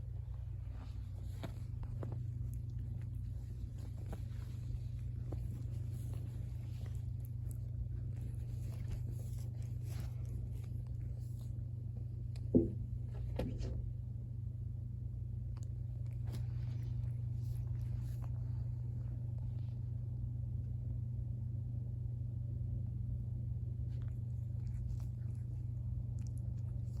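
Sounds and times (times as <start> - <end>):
cat purring: 0.0 - 13.8, 15.4 - 20.2, 23.8 - 27.0
faint clicks and rustles: 0.0 - 14.0, 15.3 - 20.3, 23.8 - 27.0.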